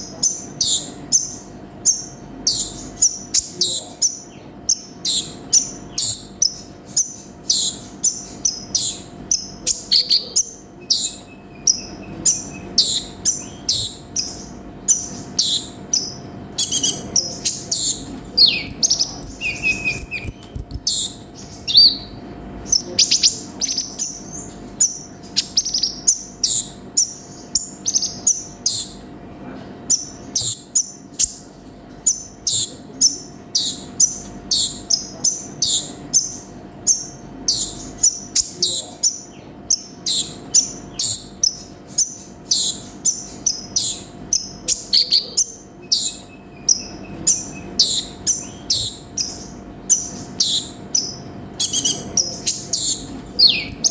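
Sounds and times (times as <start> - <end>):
bird chirping and trilling: 0.0 - 53.9.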